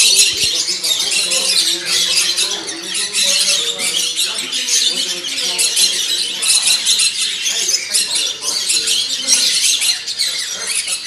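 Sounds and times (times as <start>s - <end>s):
birds chirping and twittering: 0.0s - 11.0s
murmur of people talking: 0.0s - 11.0s.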